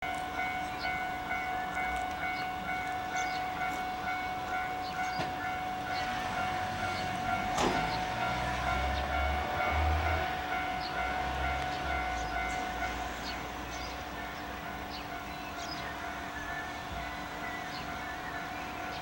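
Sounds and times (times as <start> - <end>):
diesel railcar engine rumble: 0.0 - 19.0
level-crossing warning bell: 0.0 - 19.0.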